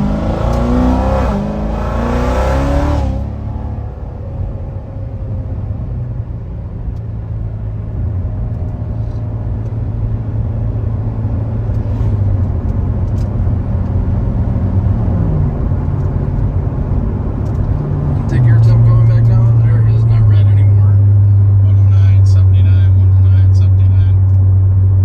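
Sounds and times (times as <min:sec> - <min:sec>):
car engine idling rumble: 0:02.9 - 0:25.0.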